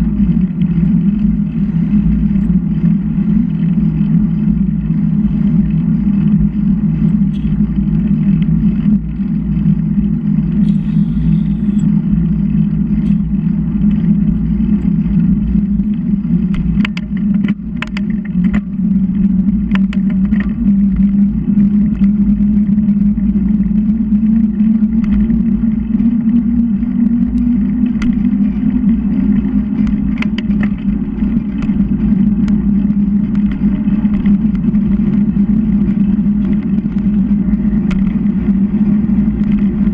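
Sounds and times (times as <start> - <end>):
bicycle clicks and rattles: 0.0 - 39.9
bicycle rumbling along road: 0.0 - 39.9.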